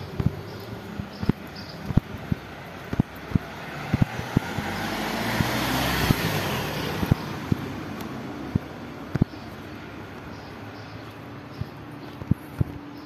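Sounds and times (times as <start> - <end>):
car passing: 0.0 - 13.0
footsteps on tiled pavement: 0.0 - 13.0.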